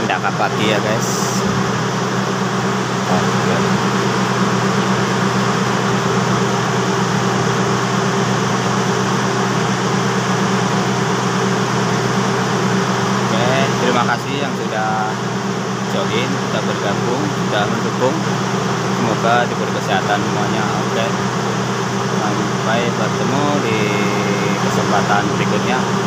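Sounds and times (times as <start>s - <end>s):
train engine and air-conditioning hum: 0.0s - 26.0s.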